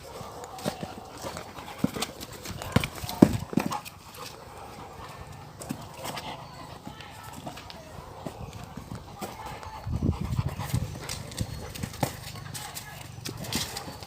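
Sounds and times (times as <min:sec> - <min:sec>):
dog playing with a football: 0:00.0 - 0:14.0.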